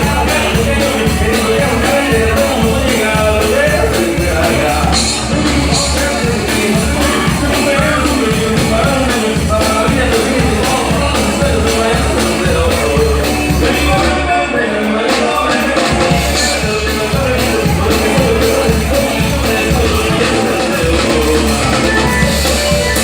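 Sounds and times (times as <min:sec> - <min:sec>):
live band playing: 0:00.0 - 0:23.0
person singing: 0:00.0 - 0:23.0.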